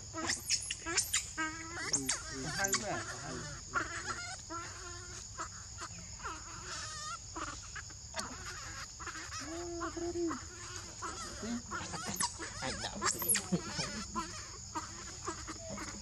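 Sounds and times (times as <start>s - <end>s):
animal squeaks and calls: 0.2s - 16.0s.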